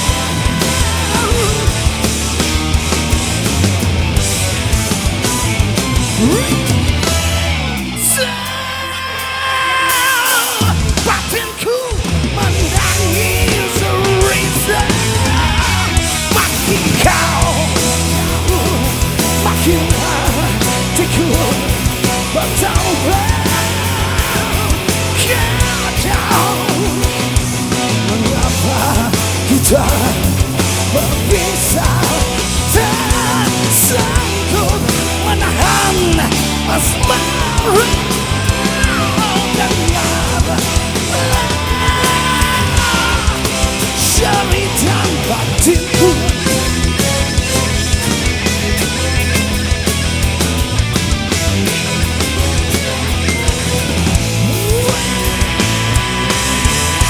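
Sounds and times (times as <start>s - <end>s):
bass guitar: 0.0s - 57.0s
drums: 0.0s - 57.0s
electric guitars: 0.0s - 57.0s
lead guitar line bending: 0.0s - 57.0s.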